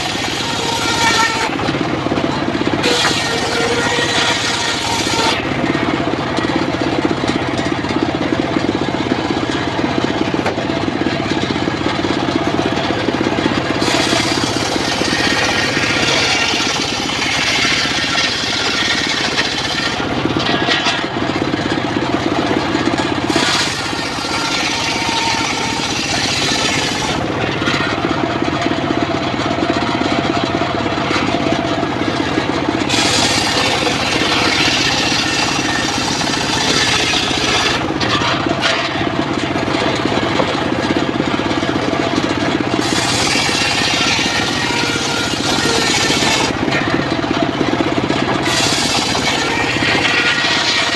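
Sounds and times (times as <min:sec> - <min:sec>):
saw blade cutting wood: 0:00.0 - 0:28.8, 0:31.0 - 0:50.9
sawmill engine running: 0:00.0 - 0:50.9.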